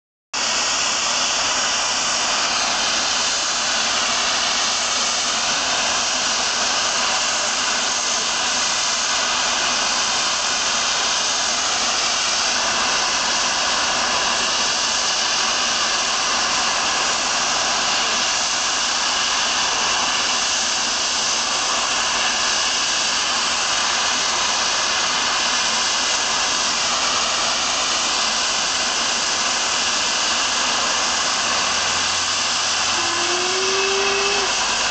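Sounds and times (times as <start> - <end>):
steam locomotive safety valves hissing: 0.4 - 34.9.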